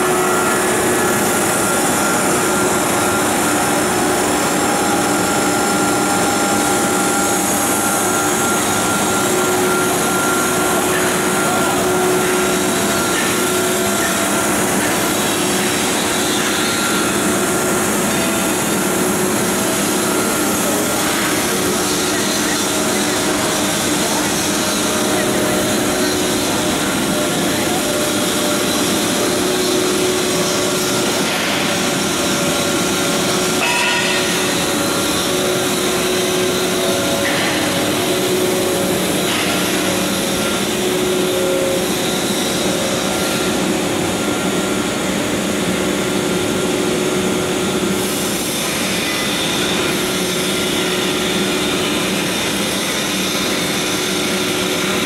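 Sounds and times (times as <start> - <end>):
machine hum and hiss: 0.0 - 55.0.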